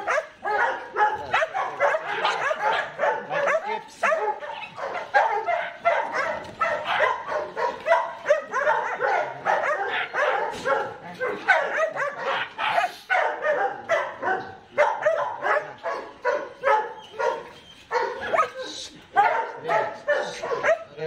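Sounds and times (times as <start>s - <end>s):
dog yelping and barking: 0.0s - 21.0s.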